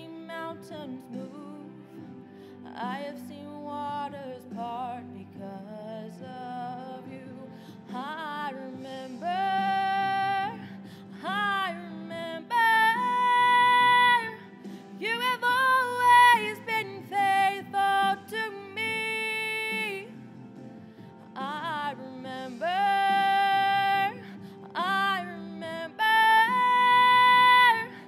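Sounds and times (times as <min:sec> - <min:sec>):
soft instrumental accompaniment: 0:00.0 - 0:28.0.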